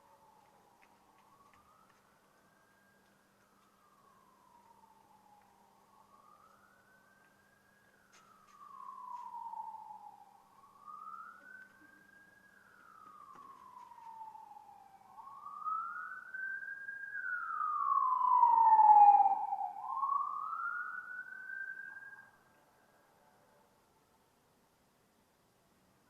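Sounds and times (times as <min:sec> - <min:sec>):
police siren wailing: 0:00.3 - 0:07.8, 0:08.5 - 0:22.3.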